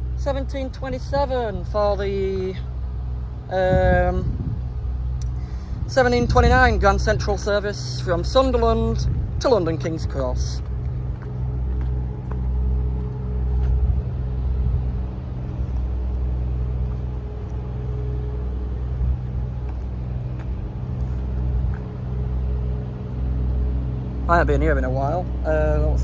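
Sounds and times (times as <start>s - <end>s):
diesel train engine drone: 0.0s - 26.0s.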